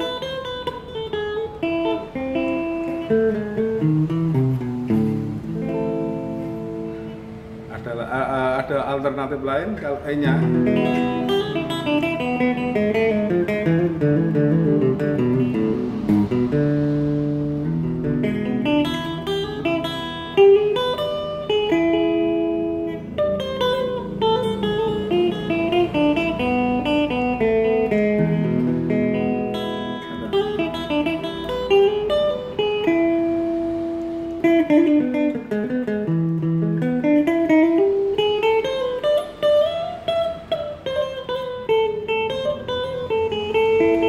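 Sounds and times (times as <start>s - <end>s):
electric guitar melody: 0.0s - 44.0s.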